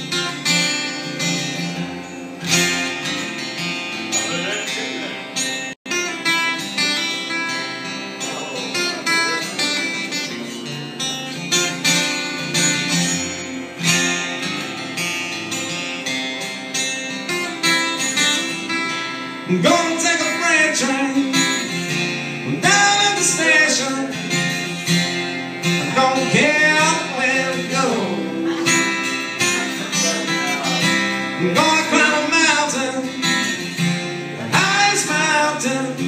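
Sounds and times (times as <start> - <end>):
acoustic guitar strummed: 0.0 - 36.0.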